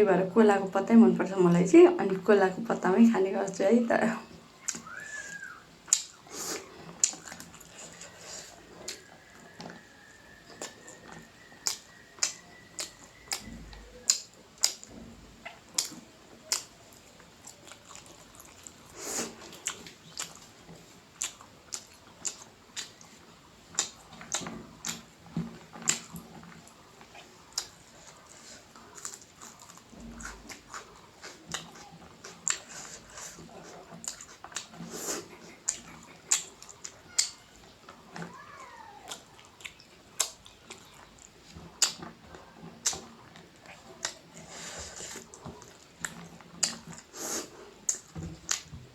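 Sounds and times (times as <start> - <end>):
person chewing and slurping: 4.6 - 9.5, 10.5 - 14.9, 15.5 - 37.4, 39.1 - 48.7.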